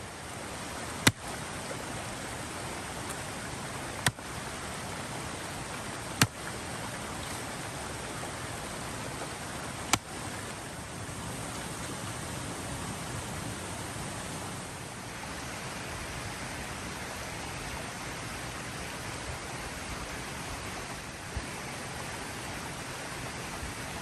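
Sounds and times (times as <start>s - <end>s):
creek rushing: 0.0s - 24.0s.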